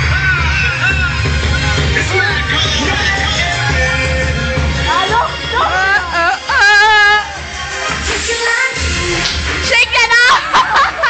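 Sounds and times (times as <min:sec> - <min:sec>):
bass beat: 0:00.0 - 0:11.0
pop music with singing: 0:00.0 - 0:11.0.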